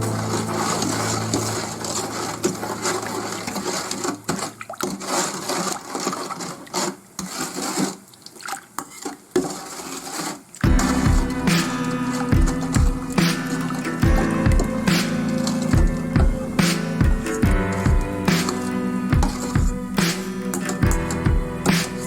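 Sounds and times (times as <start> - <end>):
rubbing and rustling: 0.0 - 22.0.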